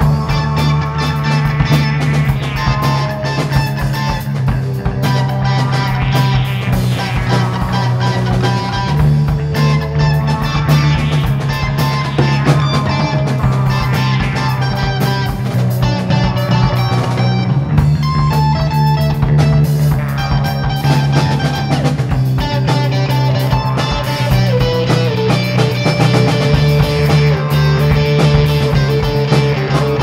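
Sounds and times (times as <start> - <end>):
bass: 0.0 - 30.0
drum hits: 0.0 - 30.0
electric guitar: 0.0 - 30.0
low drone: 0.0 - 30.0.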